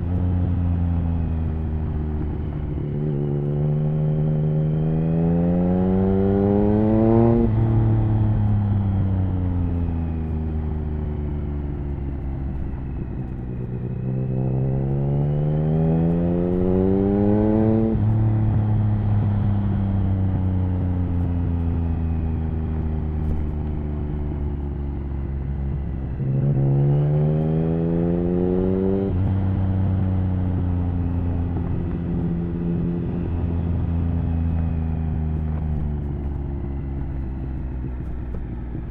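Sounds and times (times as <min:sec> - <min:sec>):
motorcycle engine revving: 0:00.0 - 0:09.9, 0:11.7 - 0:38.9.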